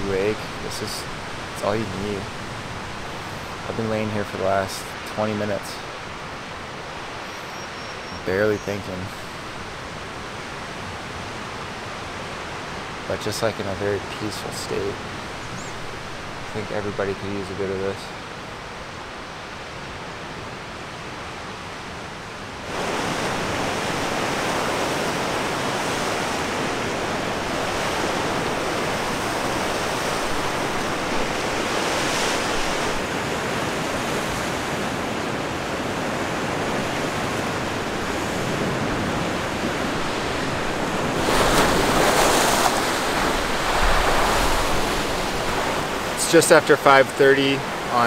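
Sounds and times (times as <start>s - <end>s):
waves breaking on rocky shore: 0.0s - 48.0s.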